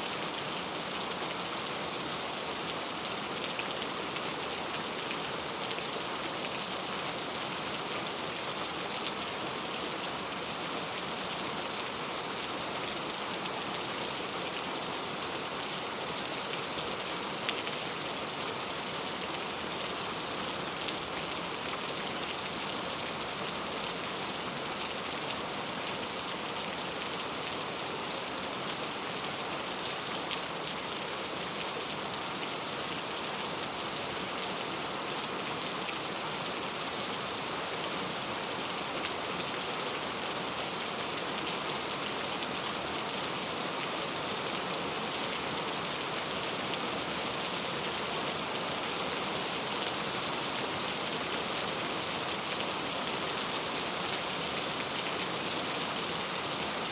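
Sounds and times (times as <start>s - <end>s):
rain falling on road: 0.1s - 56.9s.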